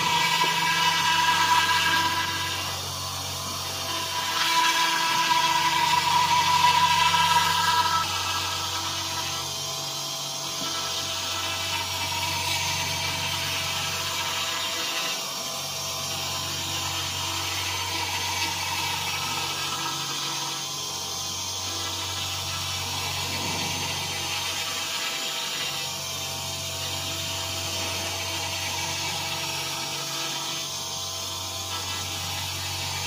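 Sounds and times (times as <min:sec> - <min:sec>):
router spindle high tone: 0:00.0 - 0:33.0.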